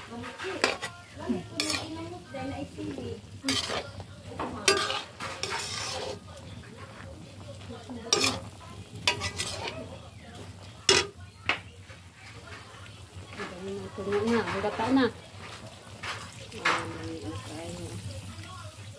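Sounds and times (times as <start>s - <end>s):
soft sizzle: 0.0s - 18.9s
spatula scraping metal wok: 0.0s - 18.9s.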